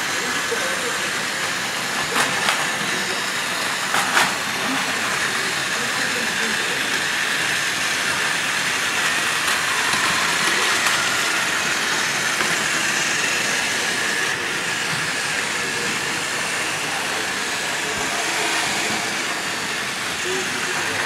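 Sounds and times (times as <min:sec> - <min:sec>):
toy train motors whirring: 0:00.0 - 0:21.0.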